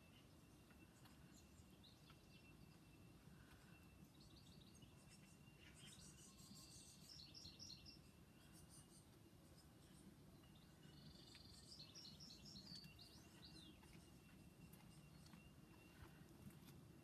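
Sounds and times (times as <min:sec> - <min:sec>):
faint bird chirps: 0:00.0 - 0:16.7
faint high whine: 0:00.0 - 0:17.0.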